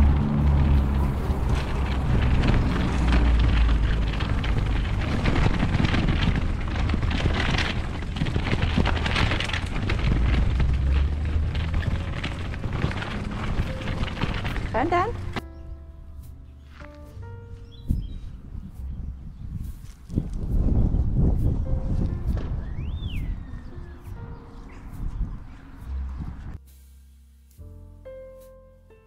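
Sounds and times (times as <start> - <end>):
wind buffeting microphone: 0.0 - 26.6.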